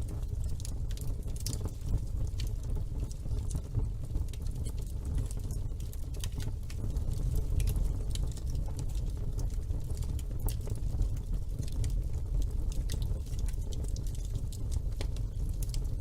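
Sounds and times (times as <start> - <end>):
fire crackles and pops: 0.0 - 16.0
fire flames burning: 0.0 - 16.0.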